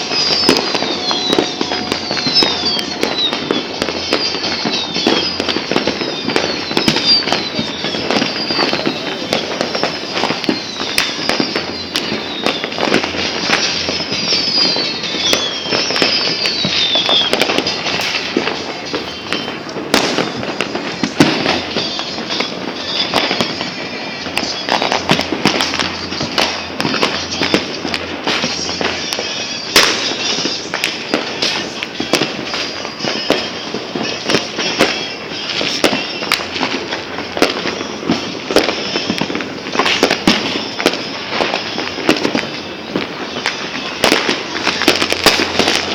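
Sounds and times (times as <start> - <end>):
fireworks and firecrackers banging: 0.0 - 45.9
whistling rockets: 0.0 - 45.9.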